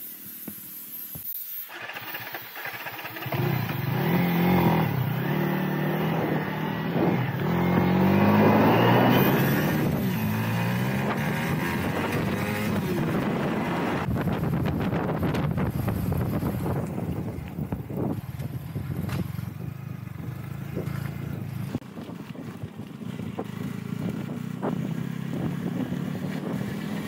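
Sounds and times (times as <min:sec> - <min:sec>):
motorcycle engine accelerating: 0:01.8 - 0:27.0
wind rushing over microphone: 0:04.0 - 0:27.0.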